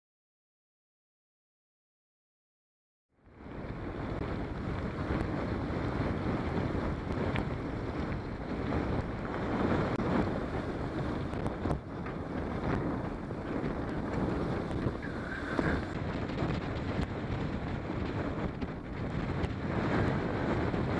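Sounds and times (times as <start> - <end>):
wind buffeting microphone: 3.2 - 20.9
tyres rolling on gravel: 3.4 - 20.9
bike clicks and rattles: 3.5 - 20.9.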